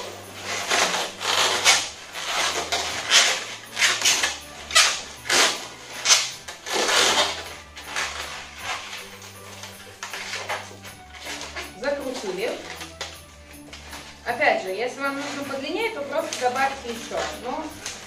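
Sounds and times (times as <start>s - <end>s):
balloons rubbing together: 0.0s - 18.0s.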